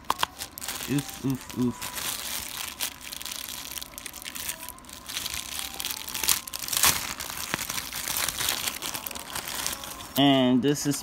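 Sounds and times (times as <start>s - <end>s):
plastic envelope crinkling: 0.0s - 10.2s.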